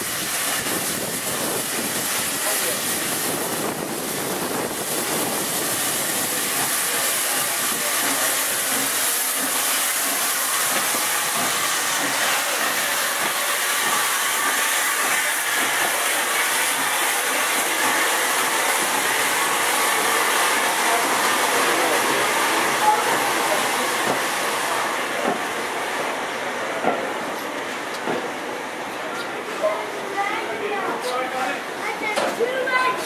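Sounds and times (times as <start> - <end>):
steam hissing: 0.0 - 30.1.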